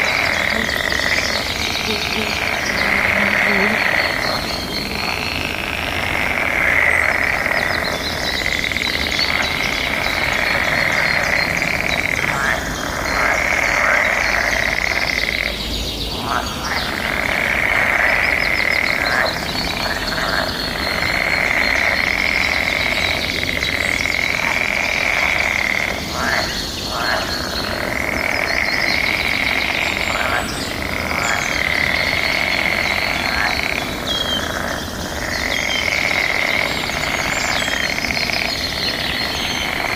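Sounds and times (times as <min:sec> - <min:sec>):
frogs chorus trilling: 0:00.0 - 0:39.9
small birds chirping: 0:00.0 - 0:39.9.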